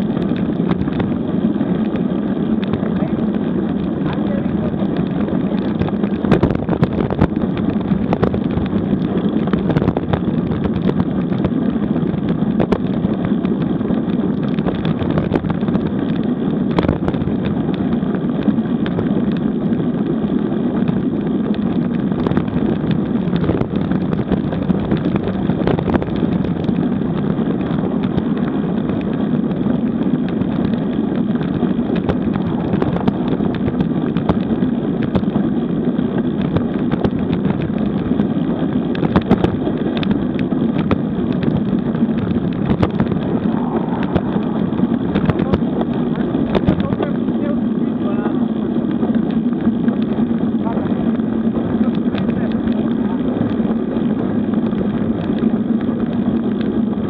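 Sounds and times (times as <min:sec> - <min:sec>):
bike rolling over asphalt: 0:00.0 - 0:57.0
wind on microphone: 0:00.0 - 0:57.0.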